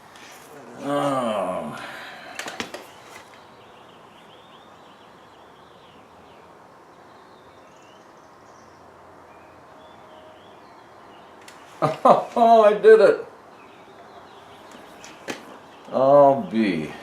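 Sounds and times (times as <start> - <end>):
faint background hiss: 0.0 - 17.0
small birds chirping: 0.0 - 17.0.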